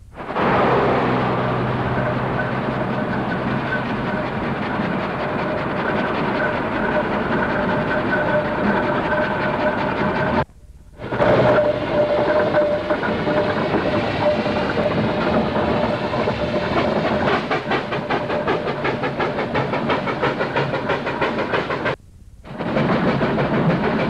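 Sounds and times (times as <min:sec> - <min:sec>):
steam engine exhaust beating: 0:00.0 - 0:24.0.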